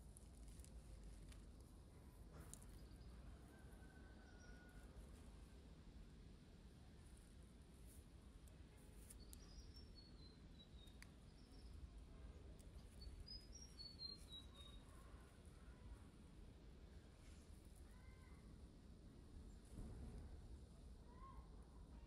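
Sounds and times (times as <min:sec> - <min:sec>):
faint bird song: 0:00.2 - 0:05.6, 0:07.1 - 0:16.2, 0:16.9 - 0:18.5, 0:19.4 - 0:22.0.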